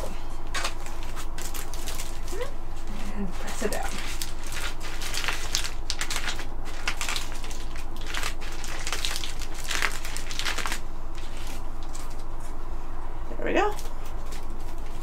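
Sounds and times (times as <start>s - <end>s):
bubble wrap crinkling: 0.0s - 12.6s, 13.7s - 15.0s.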